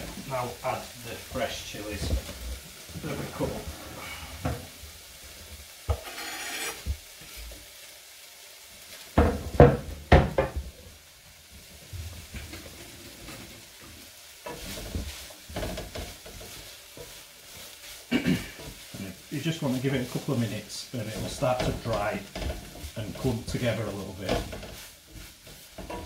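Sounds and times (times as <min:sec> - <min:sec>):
wooden spoon scraping a pan: 0:00.0 - 0:07.9, 0:11.7 - 0:26.0
meat sizzling in a frying pan: 0:00.0 - 0:26.0.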